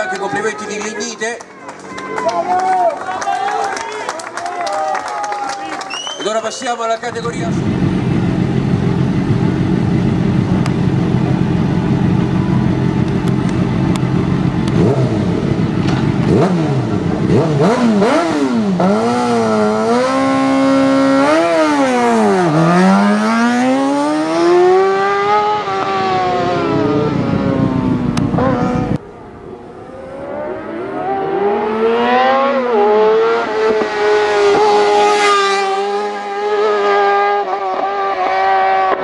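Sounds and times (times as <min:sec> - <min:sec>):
racing motorcycle engine revving: 0:07.0 - 0:39.0.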